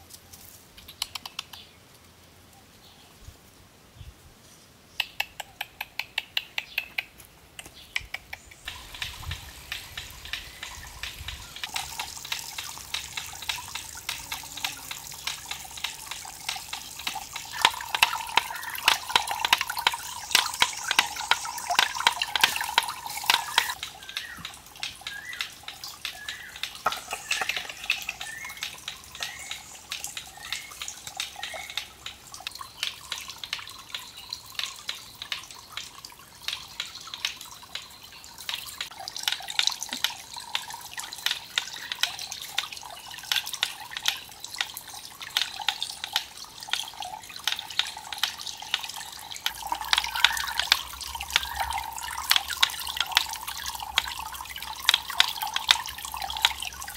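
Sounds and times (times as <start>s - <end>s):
water trickling into pond: 4.9s - 56.9s.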